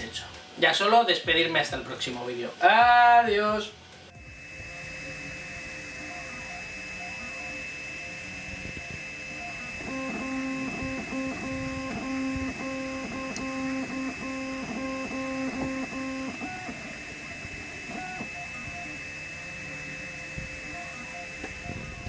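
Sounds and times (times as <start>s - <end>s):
steady high whine: 0.0s - 22.0s
stepper motors singing short tones: 3.8s - 22.0s.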